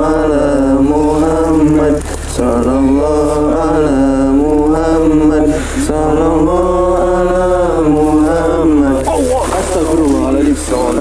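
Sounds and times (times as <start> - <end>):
man chanting: 0.0 - 11.0
steady low hum: 0.0 - 11.0.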